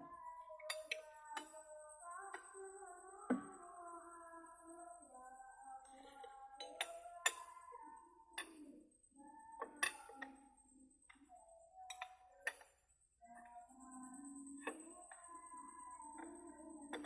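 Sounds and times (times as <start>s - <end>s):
background music with singing: 0.0s - 17.0s.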